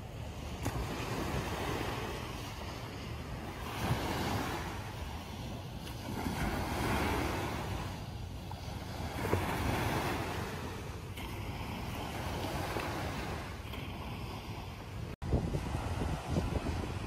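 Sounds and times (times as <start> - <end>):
small waves breaking on beach: 0.0 - 17.0
wind rumbling on microphone: 0.0 - 17.0.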